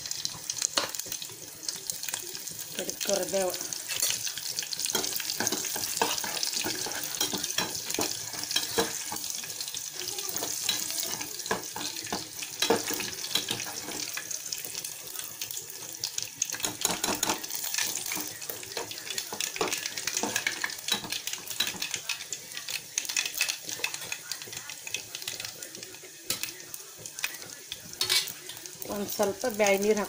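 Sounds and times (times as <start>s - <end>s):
spices sizzling in hot oil: 0.0s - 30.0s.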